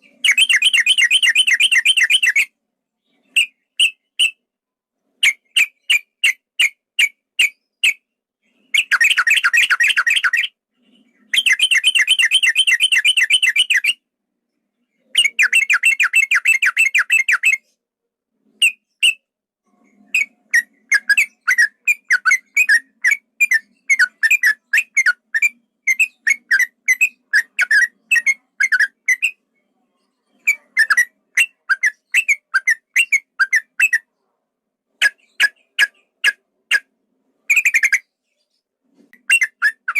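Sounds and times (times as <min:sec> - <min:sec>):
bird singing trills and chirps: 0:00.0 - 0:04.5, 0:05.2 - 0:17.8, 0:18.5 - 0:34.3, 0:35.0 - 0:39.9.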